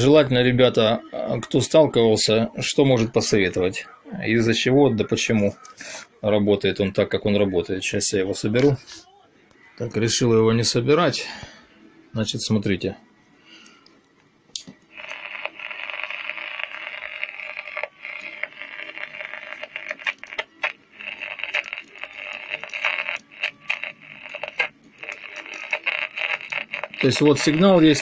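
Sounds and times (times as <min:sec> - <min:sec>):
distorted radio through small speaker: 0:00.0 - 0:28.0.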